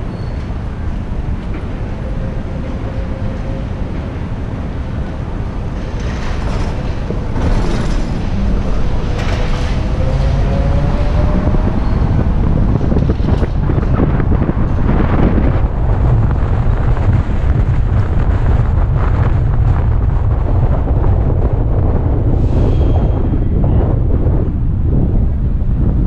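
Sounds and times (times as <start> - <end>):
road and wind rumble: 0.0 - 26.0.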